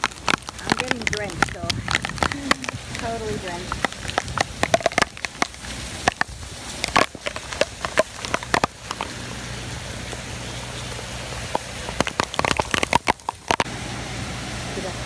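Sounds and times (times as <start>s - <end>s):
raindrops tapping near microphone: 0.0s - 13.7s
heavy rain pouring: 0.0s - 15.0s.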